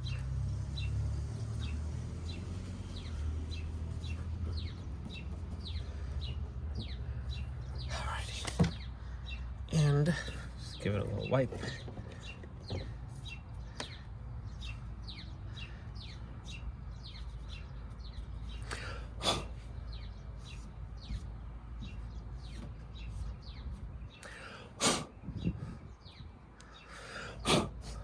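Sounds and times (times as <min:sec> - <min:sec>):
small bird chirping: 0:00.0 - 0:24.5.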